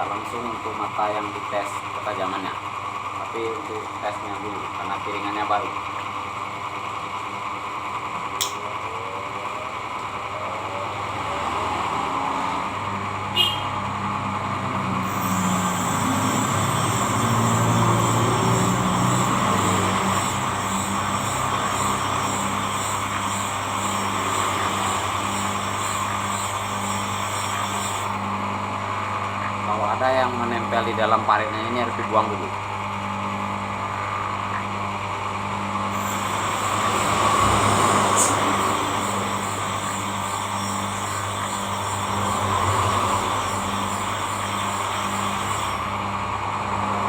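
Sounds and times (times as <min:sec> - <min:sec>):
sharpening machine motor hum: 0:00.0 - 0:29.8, 0:32.8 - 0:47.0.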